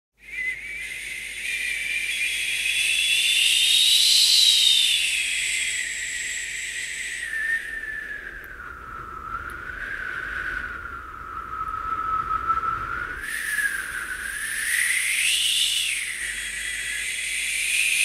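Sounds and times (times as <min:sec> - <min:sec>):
gliding whistling tone: 0:00.2 - 0:18.0
hiss: 0:00.8 - 0:11.1, 0:12.8 - 0:18.0.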